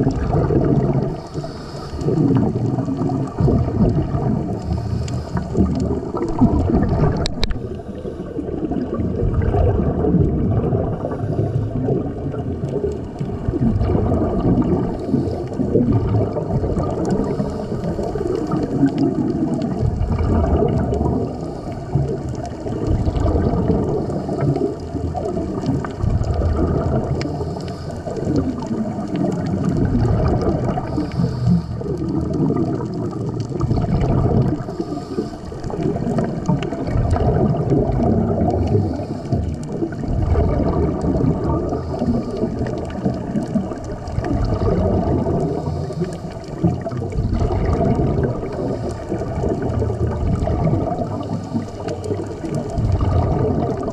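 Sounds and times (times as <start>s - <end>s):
regulator bubbles gurgling underwater: 0.0s - 53.9s
water noise: 0.0s - 53.9s.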